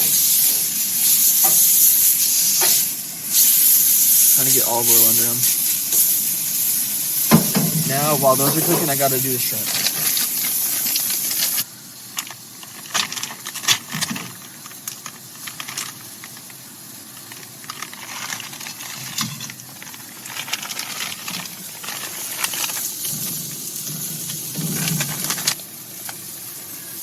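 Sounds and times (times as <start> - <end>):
steaks sizzling on a griddle: 0.0 - 27.0.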